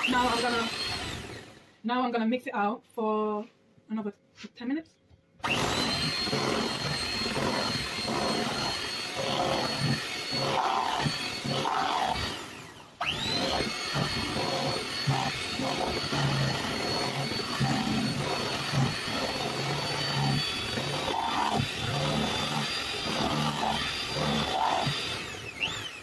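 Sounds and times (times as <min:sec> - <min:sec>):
electric hand mixer whining: 0:00.0 - 0:01.7, 0:05.4 - 0:26.0.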